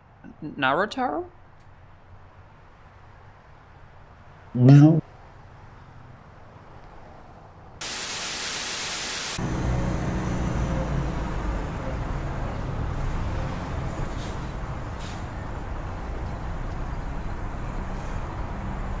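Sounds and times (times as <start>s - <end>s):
traffic rumble: 0.0s - 7.8s, 9.4s - 19.0s.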